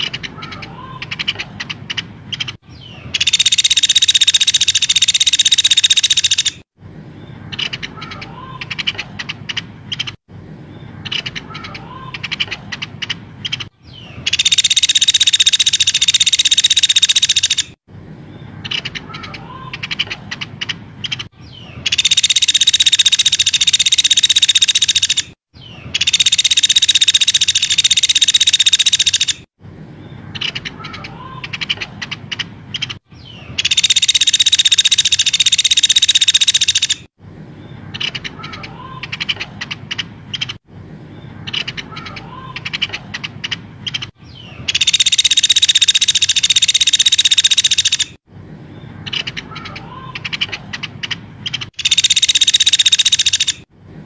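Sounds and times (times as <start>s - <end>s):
high-pitched bird chattering: 0.0s - 6.6s, 7.2s - 10.2s, 10.8s - 17.8s, 18.4s - 29.5s, 30.2s - 37.1s, 37.8s - 48.2s, 48.8s - 53.7s
songbird chirps: 0.0s - 54.0s.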